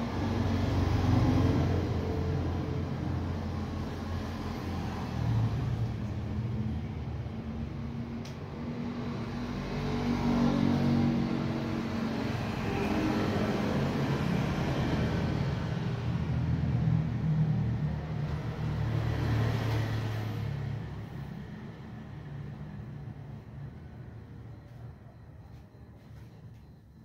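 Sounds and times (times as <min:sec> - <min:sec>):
vehicle engines rumbling: 0:00.0 - 0:26.6.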